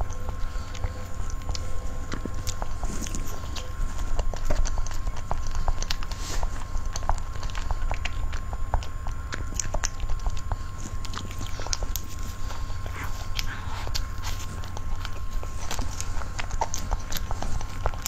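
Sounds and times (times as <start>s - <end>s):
steady low rumble: 0.0s - 18.0s
wet chewing and mouth smacks: 0.0s - 18.0s.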